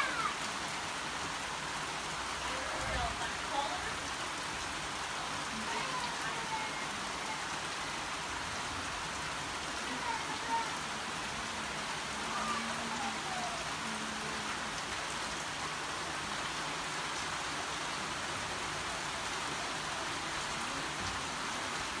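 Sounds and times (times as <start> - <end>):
rain falling onto puddles: 0.0 - 22.0.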